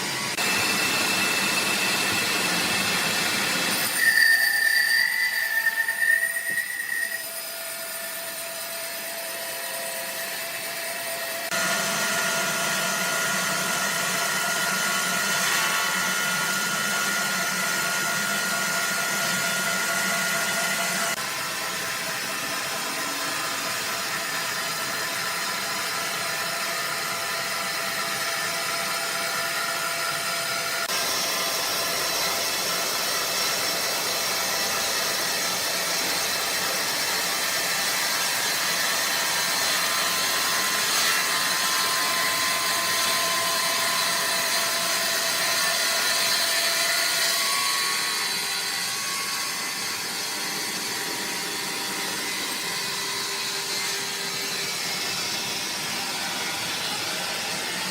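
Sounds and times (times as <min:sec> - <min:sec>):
saw running: 0:00.0 - 0:57.9
steady machine whines: 0:00.0 - 0:57.9.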